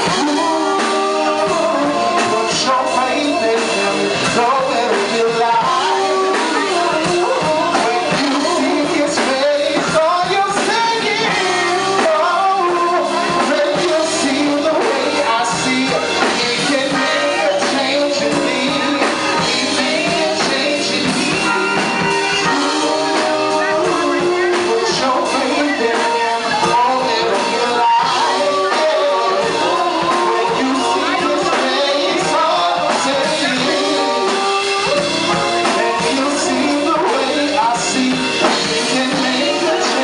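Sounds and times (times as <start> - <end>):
live band playing: 0.0 - 40.0
person singing: 0.0 - 40.0.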